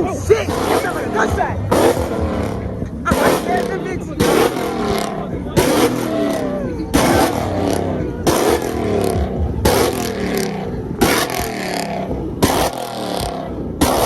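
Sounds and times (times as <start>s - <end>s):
car engine revving: 0.0s - 14.0s
exhaust backfire bangs: 0.0s - 14.0s.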